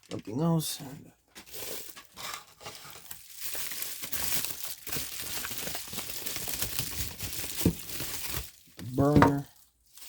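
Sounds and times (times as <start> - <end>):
plastic packaging crinkling: 1.4 - 10.0.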